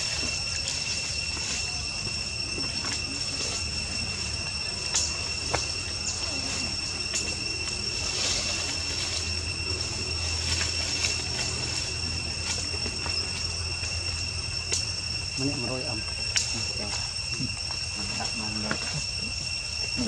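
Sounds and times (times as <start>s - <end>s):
high-pitched insect drone: 0.0s - 20.0s
low hum: 0.0s - 20.0s.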